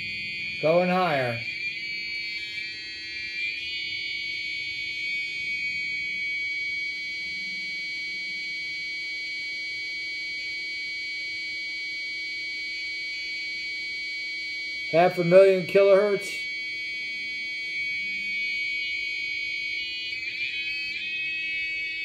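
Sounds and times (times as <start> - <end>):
high-pitched buzzing tone: 0.0 - 22.0.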